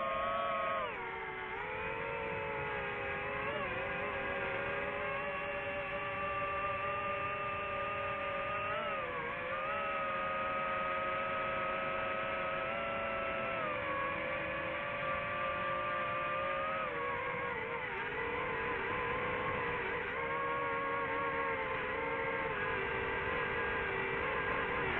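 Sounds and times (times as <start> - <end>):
drone propellers whining: 0.0 - 24.9.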